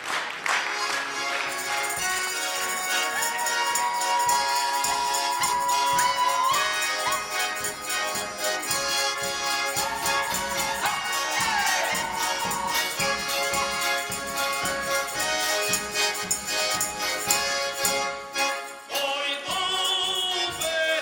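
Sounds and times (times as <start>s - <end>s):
tambourine jingling: 1.4s - 21.0s
held sliding melody line: 1.5s - 18.9s.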